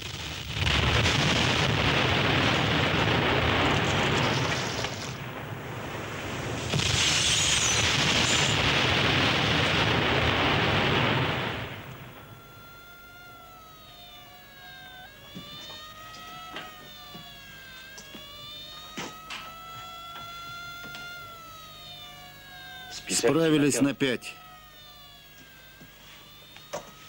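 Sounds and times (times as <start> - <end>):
whining tones falling in pitch: 1.0 - 27.0.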